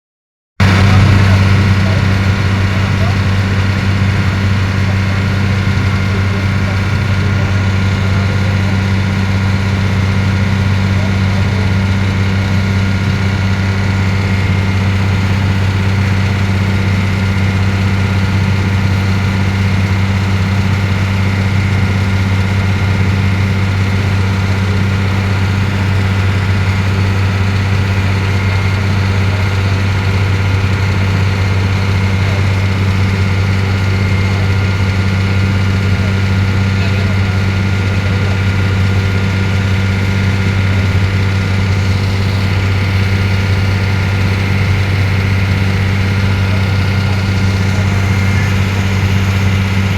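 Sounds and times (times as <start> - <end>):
ferry engine drone: 0.6 - 49.9.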